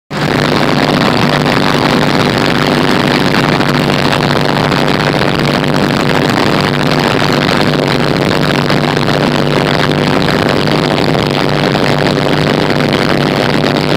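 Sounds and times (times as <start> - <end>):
light aircraft engine in flight: 0.1 - 13.9.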